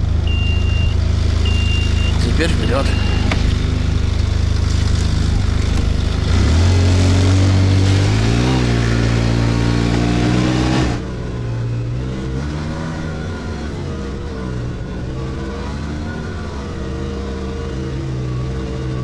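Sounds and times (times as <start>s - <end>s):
snow vehicle engine revving: 0.0s - 19.0s.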